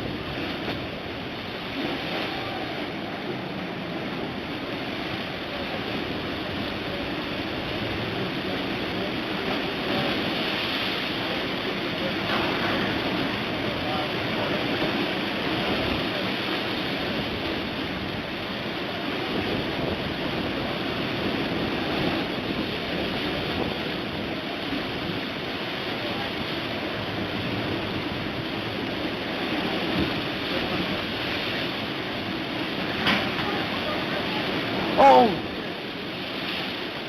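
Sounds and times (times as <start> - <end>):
sea waves: 0.0 - 37.0
wind: 0.0 - 37.0.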